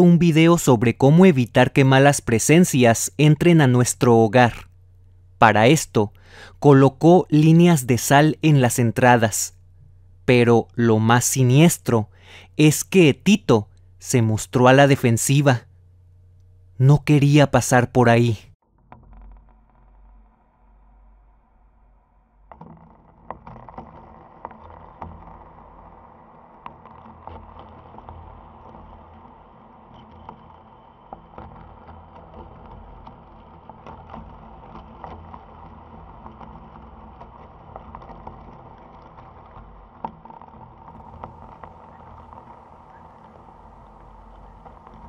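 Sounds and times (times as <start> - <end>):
low steady background noise: 0.0 - 18.6, 21.1 - 45.0.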